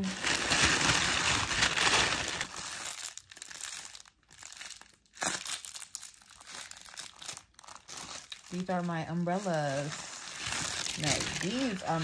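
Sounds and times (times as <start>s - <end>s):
packaging wrap crinkling: 0.0s - 12.0s.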